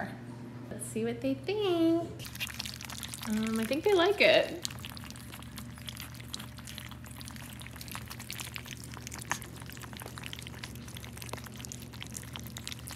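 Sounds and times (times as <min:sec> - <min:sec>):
puppies lapping and slurping: 0:02.2 - 0:12.9.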